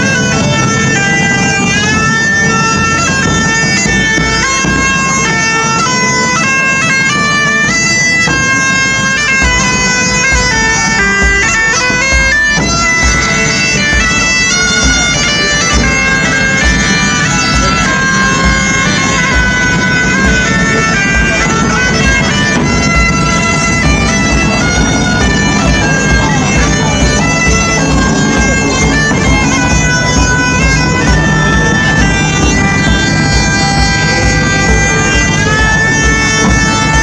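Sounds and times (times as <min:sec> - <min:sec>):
bagpipes playing: 0:00.0 - 0:37.0.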